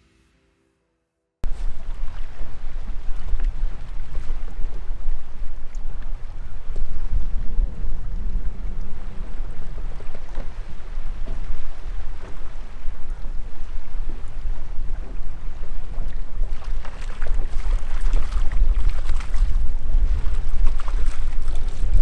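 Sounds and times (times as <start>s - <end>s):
wind buffeting microphone: 1.4s - 22.0s.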